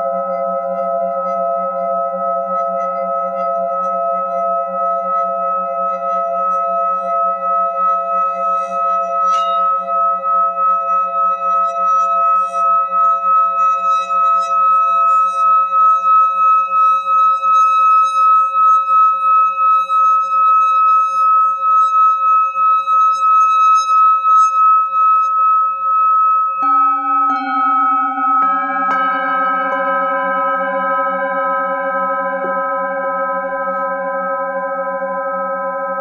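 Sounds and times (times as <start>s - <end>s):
singing bowl rubbed with mallet: 0.0s - 36.0s
singing bowl struck ringing: 0.0s - 36.0s.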